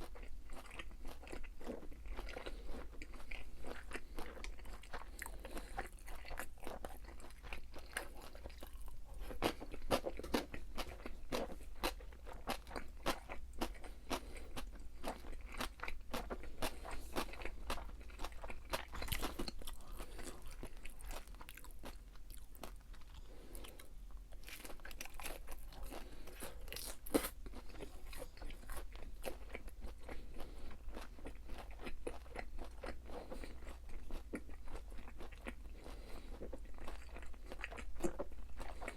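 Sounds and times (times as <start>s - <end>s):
person chewing crisp food: 0.0s - 38.9s.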